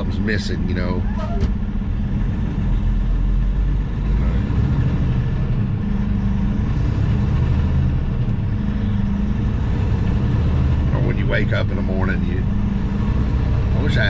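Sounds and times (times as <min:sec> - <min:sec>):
road noise: 0:00.0 - 0:14.0
truck diesel engine drone: 0:00.0 - 0:14.0.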